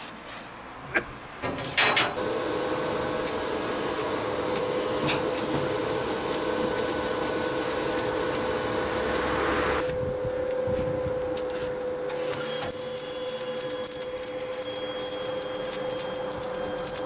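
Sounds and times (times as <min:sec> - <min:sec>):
arc welding crackling hiss: 0:01.6 - 0:10.0, 0:11.5 - 0:17.0
machine hum: 0:02.2 - 0:17.0.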